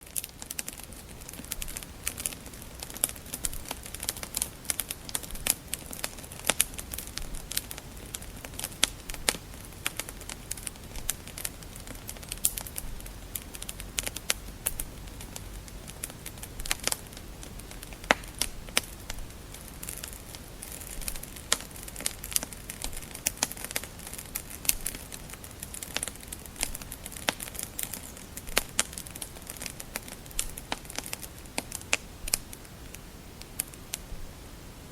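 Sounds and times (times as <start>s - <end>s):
soft steady hiss: 0.0s - 34.9s
wood fire crackling: 0.0s - 34.9s.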